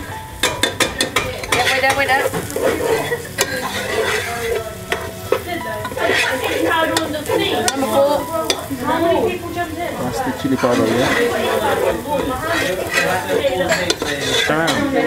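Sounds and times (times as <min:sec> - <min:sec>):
onions sizzling in a pot: 0:00.0 - 0:15.0
spatula scraping a pan: 0:00.4 - 0:15.0.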